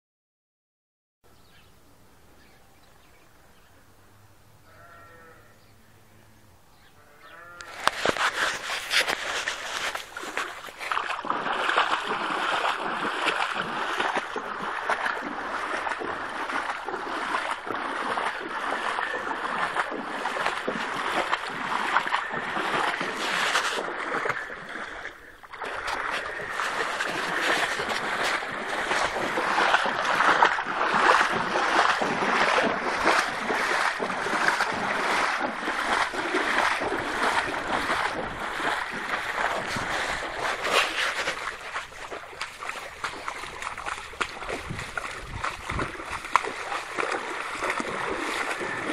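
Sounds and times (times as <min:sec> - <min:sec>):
flood water rushing and splashing: 0:07.7 - 0:48.9.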